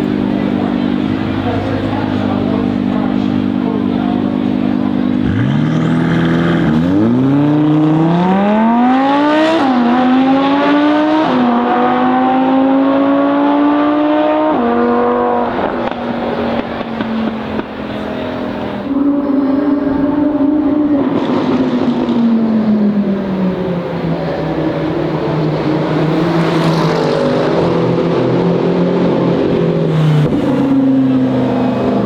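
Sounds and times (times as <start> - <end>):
sports car engine accelerating: 0.0 - 32.0.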